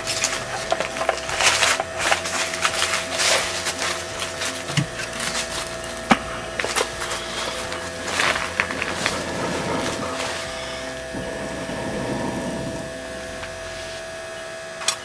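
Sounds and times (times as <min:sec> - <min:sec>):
small fan humming: 0:00.0 - 0:15.0.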